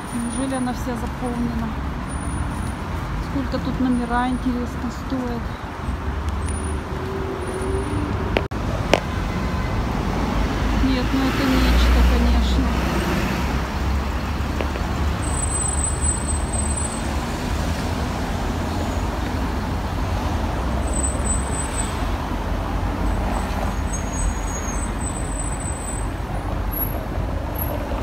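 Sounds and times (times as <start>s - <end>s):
city road traffic rumble: 0.0s - 28.0s.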